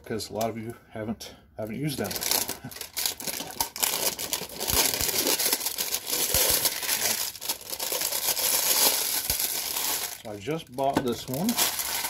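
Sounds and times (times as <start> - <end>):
packaging crinkling and rustling: 2.0 - 12.0.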